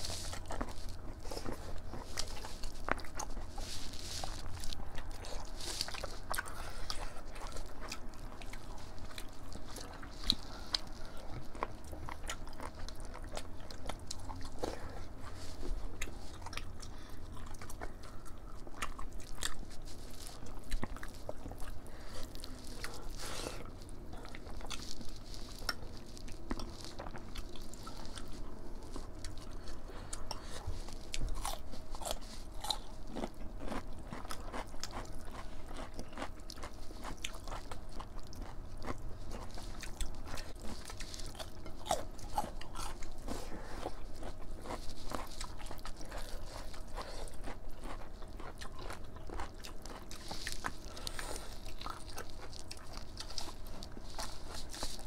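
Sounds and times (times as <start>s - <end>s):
people chewing food: 0.0s - 55.0s.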